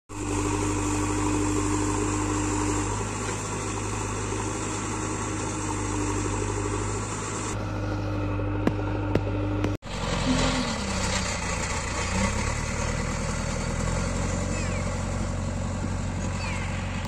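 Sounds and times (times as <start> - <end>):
diesel engine running: 0.1 - 17.0.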